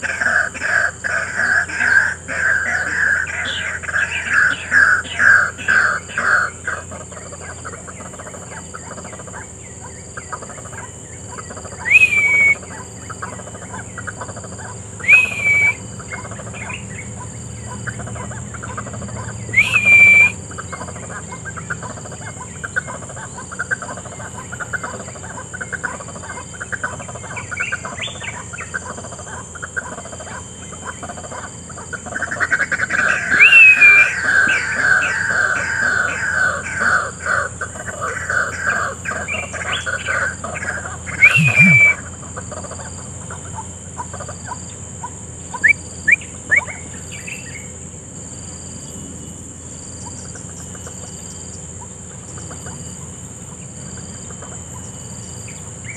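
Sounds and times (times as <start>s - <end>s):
waterhens calling: 0.0s - 47.8s.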